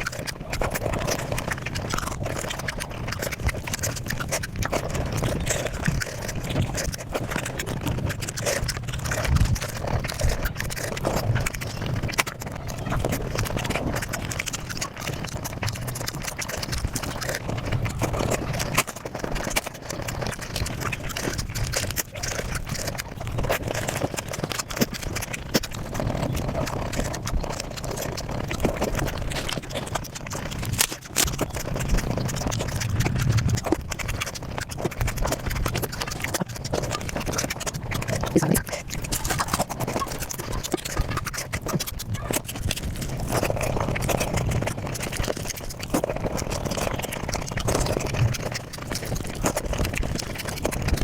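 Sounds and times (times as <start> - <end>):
sped-up chewing and crunching: 0.0 - 51.0.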